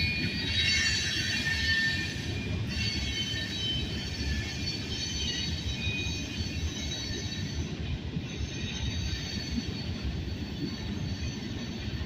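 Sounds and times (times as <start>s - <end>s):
high-pitched wheel squeals: 0.0s - 12.0s
train wheels rumbling on rails: 0.0s - 12.0s.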